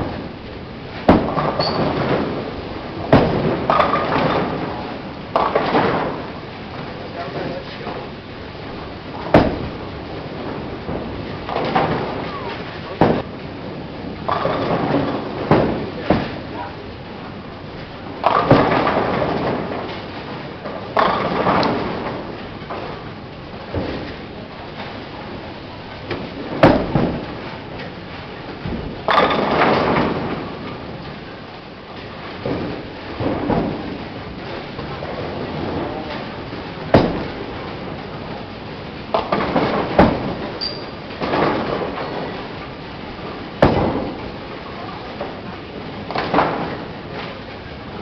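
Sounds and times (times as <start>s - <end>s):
bowling balls striking pins: 0.0s - 48.0s.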